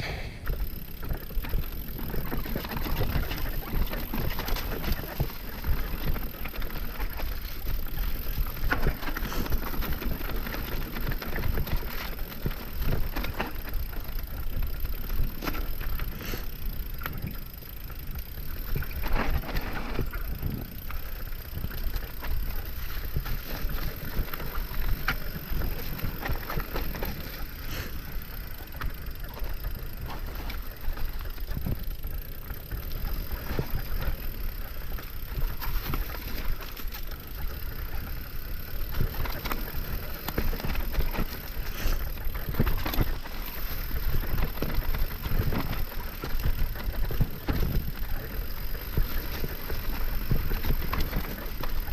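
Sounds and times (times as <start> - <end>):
tires rumbling over dirt: 0.0 - 51.9
bike rattles and knocks: 0.1 - 51.9.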